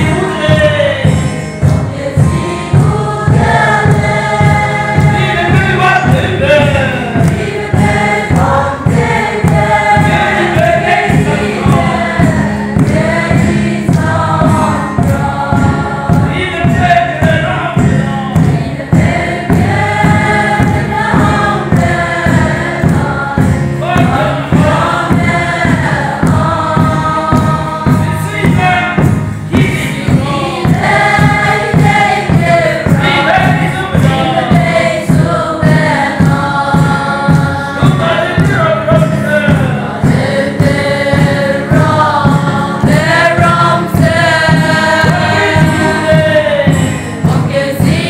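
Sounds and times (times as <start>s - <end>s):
congregation singing a hymn: 0.0s - 48.0s.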